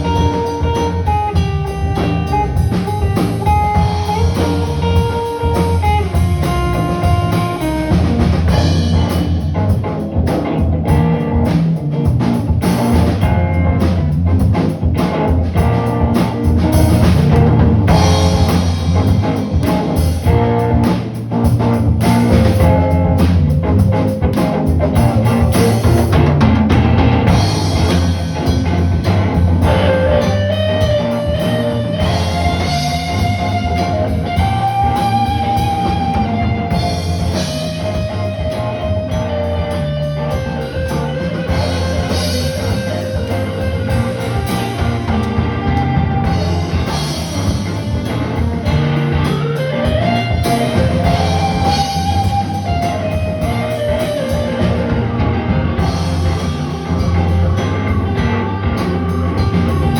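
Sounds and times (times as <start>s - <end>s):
drum kit playing: 0.0s - 59.9s
electric guitar playing: 0.0s - 59.9s.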